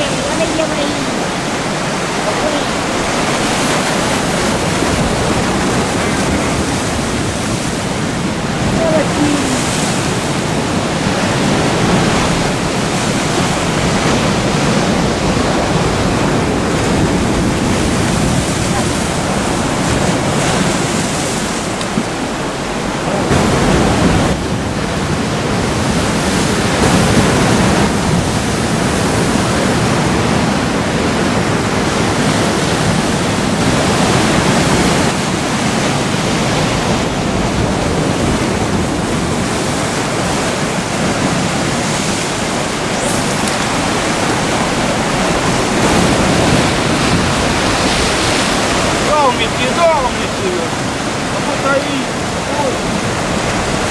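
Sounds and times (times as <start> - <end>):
surf on rocky shore: 0.0 - 53.9.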